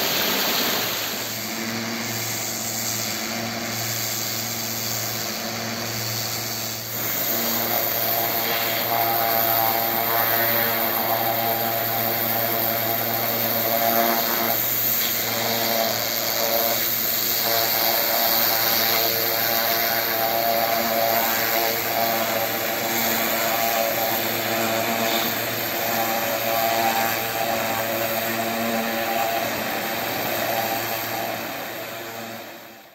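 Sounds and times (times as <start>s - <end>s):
water jet hissing on stone: 0.0s - 32.5s
pressure washer pump humming: 0.0s - 32.9s.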